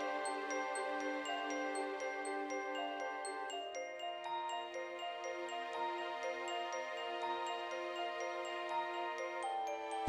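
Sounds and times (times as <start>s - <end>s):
bell-like mallet notes: 0.0s - 10.0s.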